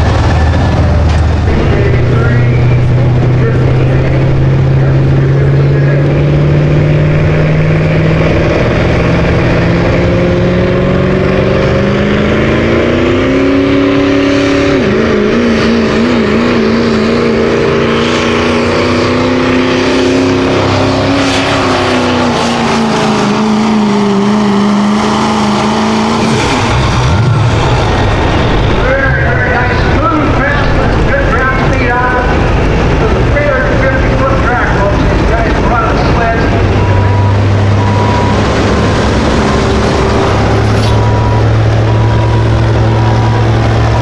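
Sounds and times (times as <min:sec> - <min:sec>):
diesel truck engine at full throttle: 0:00.0 - 0:44.0.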